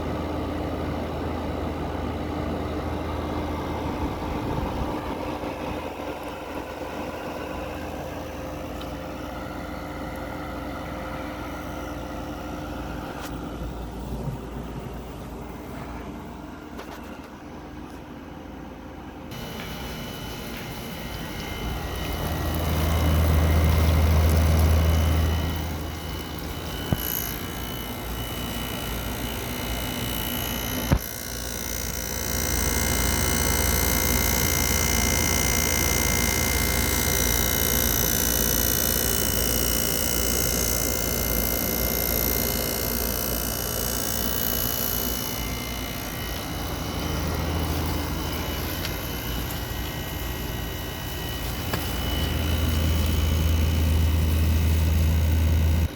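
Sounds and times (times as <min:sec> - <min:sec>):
air conditioner fan and airflow: 0:00.0 - 0:55.9
low hum: 0:02.4 - 0:55.9.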